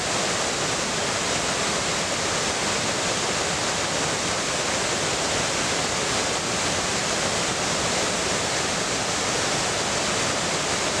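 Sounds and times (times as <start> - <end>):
waterfall over rocks: 0.0 - 11.0.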